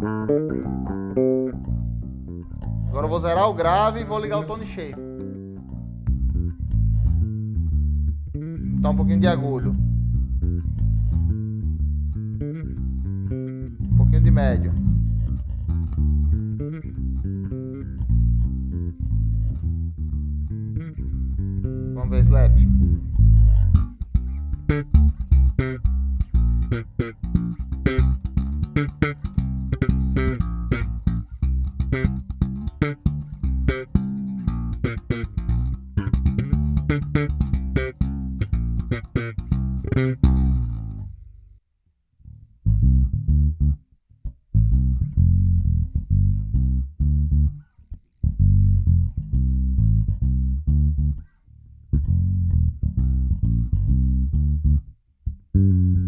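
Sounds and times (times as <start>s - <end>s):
slap bass guitar playing: 0.0s - 41.6s, 42.3s - 56.0s.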